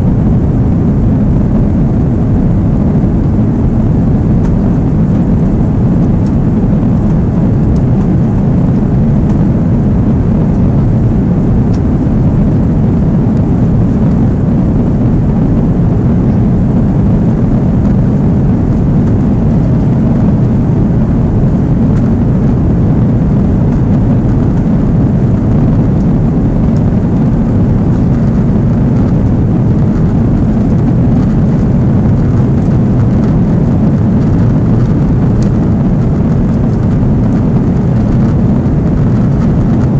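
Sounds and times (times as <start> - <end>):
jet engines roaring in cabin: 0.0 - 39.9
rushing air: 0.0 - 39.9.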